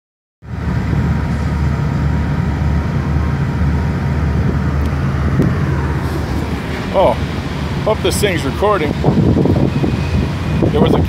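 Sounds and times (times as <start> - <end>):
diesel truck engine idling: 0.5 - 11.0.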